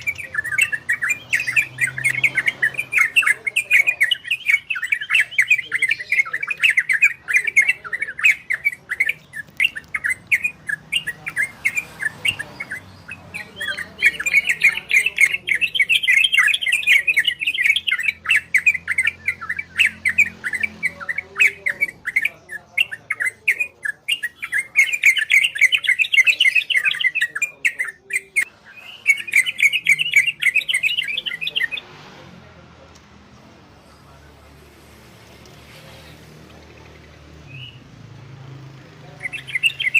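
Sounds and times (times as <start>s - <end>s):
bulbuls chattering song: 0.0s - 39.9s.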